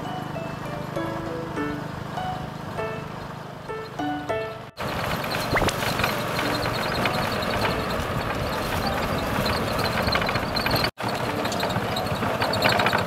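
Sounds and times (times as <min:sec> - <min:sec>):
motorbike engine: 0:00.0 - 0:13.0
road noise: 0:00.0 - 0:13.0.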